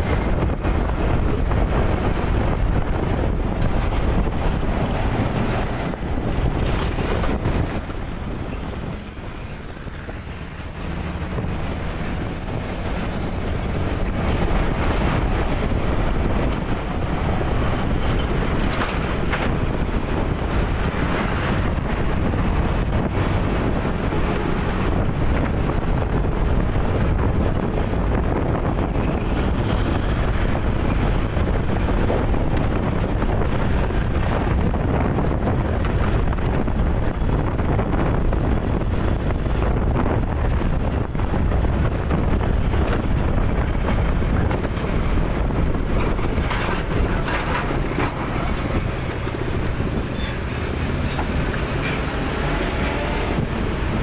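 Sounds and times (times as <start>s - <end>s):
motorcycle road and engine noise: 0.0s - 54.0s
wind buffeting microphone: 0.0s - 54.0s.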